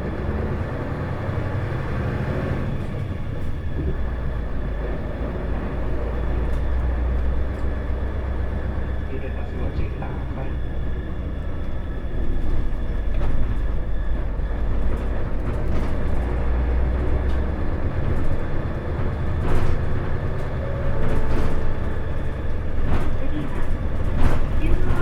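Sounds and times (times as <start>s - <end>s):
bus engine drone: 0.0s - 25.0s.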